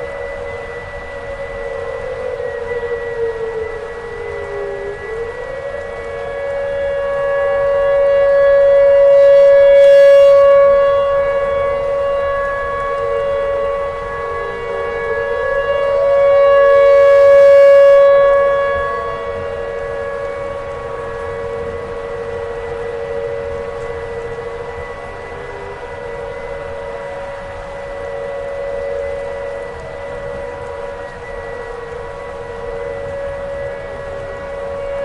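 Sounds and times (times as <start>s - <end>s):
warning siren wailing: 0.0s - 35.0s.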